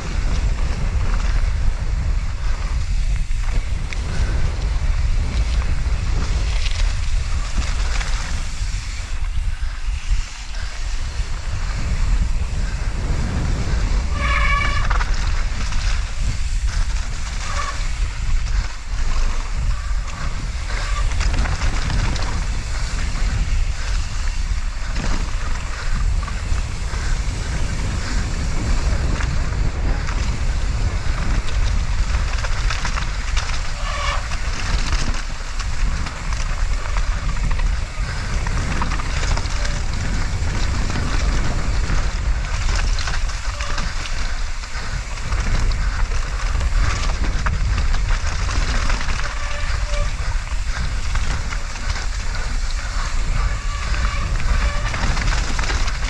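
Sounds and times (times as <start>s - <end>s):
bike rattling over ground: 0.0s - 56.0s
wind buffeting microphone: 0.0s - 56.0s.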